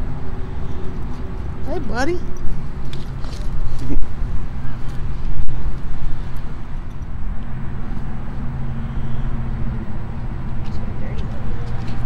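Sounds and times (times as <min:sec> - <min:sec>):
motor vehicle drone: 0:00.0 - 0:12.0.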